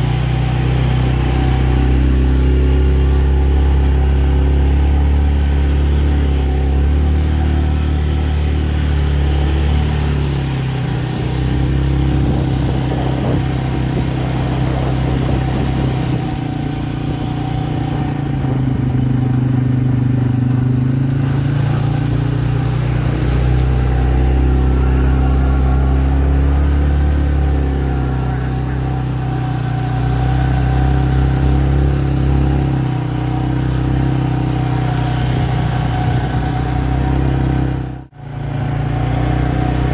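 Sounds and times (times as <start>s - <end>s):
motor vehicle engine running: 0.0s - 39.9s.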